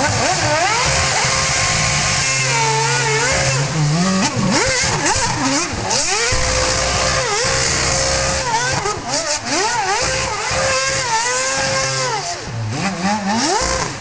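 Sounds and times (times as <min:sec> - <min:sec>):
racing car engine revving: 0:00.0 - 0:14.0.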